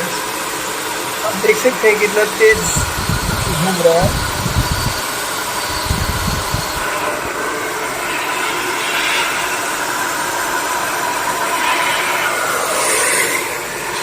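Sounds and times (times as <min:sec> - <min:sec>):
air blower rushing: 0:00.0 - 0:14.0
faint steady whine: 0:00.0 - 0:14.0.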